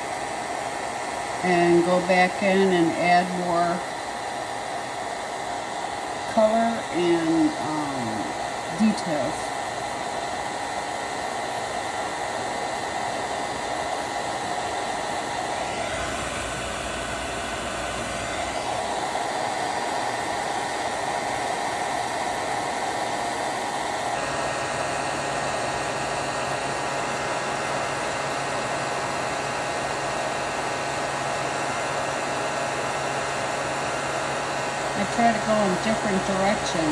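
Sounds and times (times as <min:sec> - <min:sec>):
hot-air tool blowing: 0:00.0 - 0:36.9.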